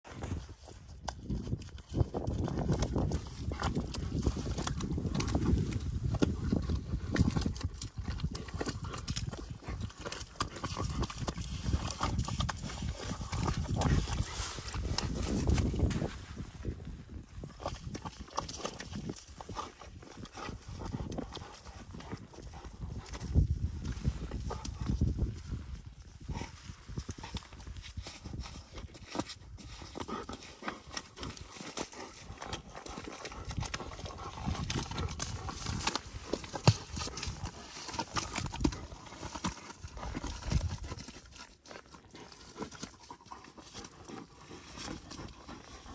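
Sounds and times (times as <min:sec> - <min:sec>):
dog paws slapping in mud: 0:00.0 - 0:45.9.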